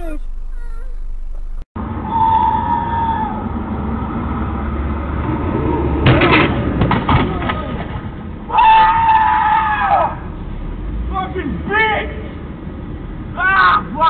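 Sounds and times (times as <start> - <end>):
street traffic rumbling: 0.0 - 14.0.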